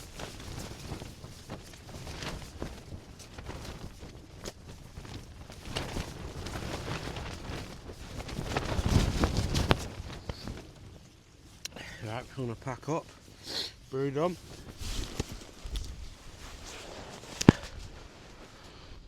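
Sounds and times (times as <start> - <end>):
wind buffeting microphone: 0.0 - 11.2, 14.2 - 19.0
clicks and rustles: 0.0 - 11.8, 14.4 - 18.7.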